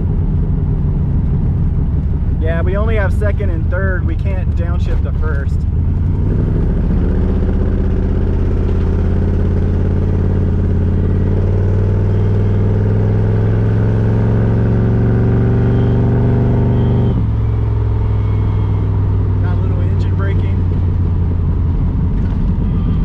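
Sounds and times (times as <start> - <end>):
car engine and exhaust: 0.0 - 23.0.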